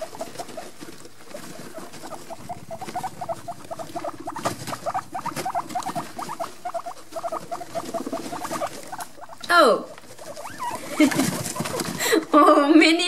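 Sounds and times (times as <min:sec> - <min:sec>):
guinea pigs squeaking: 0:00.0 - 0:12.1
rustling in wood shavings: 0:00.0 - 0:12.2
guinea pigs chewing: 0:00.0 - 0:12.8.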